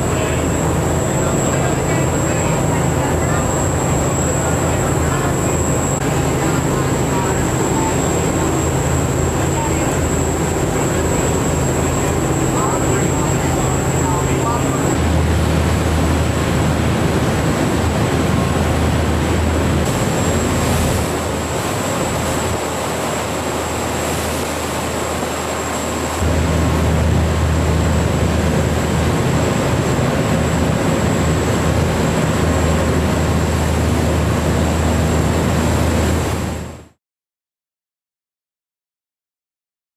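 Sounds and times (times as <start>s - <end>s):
boat engine humming: 0.0s - 36.9s
wind: 0.0s - 37.0s.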